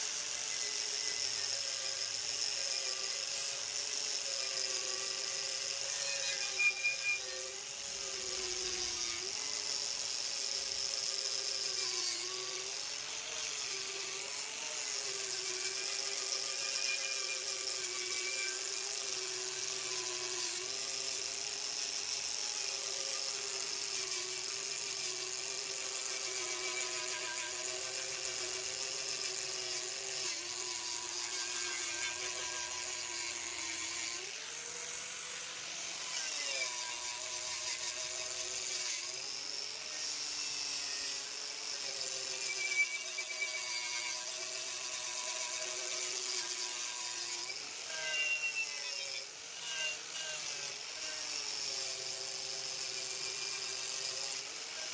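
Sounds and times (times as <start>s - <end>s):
high-speed power tool whining: 0.0s - 54.9s.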